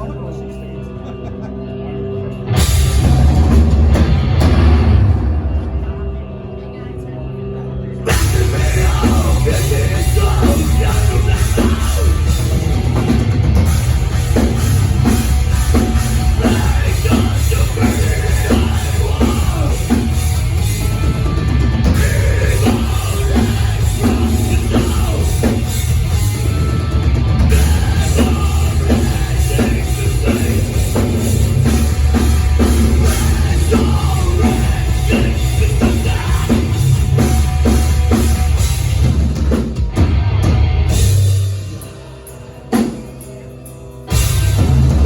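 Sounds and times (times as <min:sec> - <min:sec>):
heavy metal band playing live: 0:00.0 - 0:45.0.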